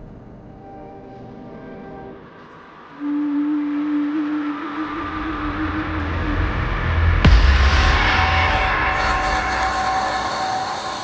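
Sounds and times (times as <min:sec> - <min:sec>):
deep train rumble: 0:00.0 - 0:11.0
train horn tone: 0:00.0 - 0:11.0.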